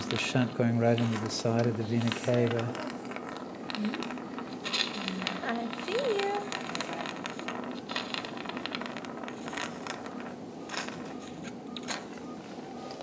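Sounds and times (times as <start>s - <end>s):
steady low hum: 0.0s - 13.0s
suction tube crackling: 0.0s - 13.0s.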